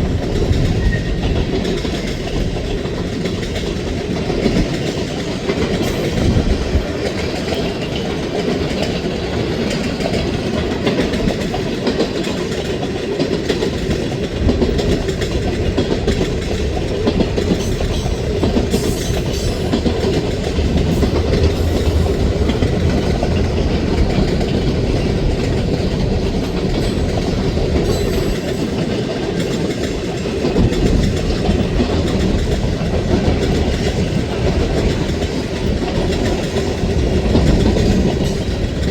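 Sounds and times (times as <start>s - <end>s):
freight train cars rumbling: 0.0s - 38.9s
wheels clicking over rail joints: 0.1s - 38.9s.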